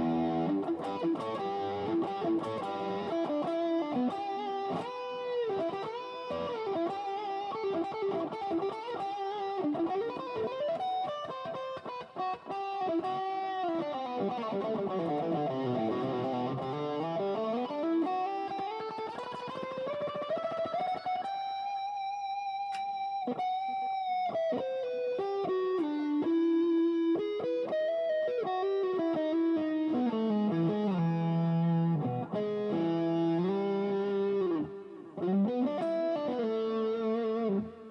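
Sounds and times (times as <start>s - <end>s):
electric guitar lead line: 0.0s - 37.9s.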